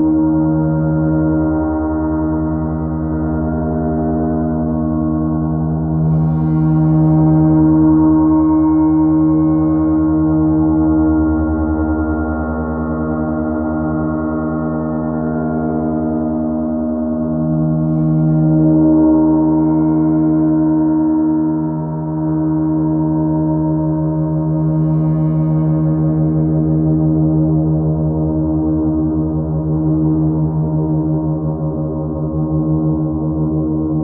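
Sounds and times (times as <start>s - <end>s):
gong drone: 0.0s - 34.0s.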